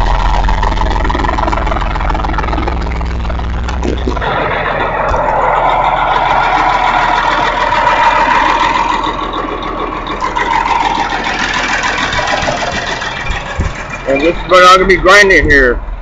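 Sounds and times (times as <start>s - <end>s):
hay grinder running: 0.0s - 15.3s.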